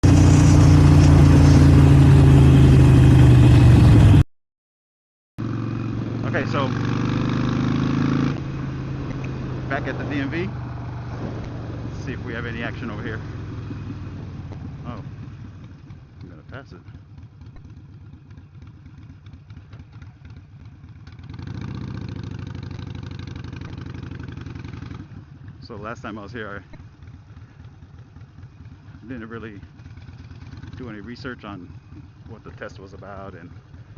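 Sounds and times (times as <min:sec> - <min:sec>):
motorcycle engine running: 0:00.0 - 0:04.2, 0:05.4 - 0:33.9.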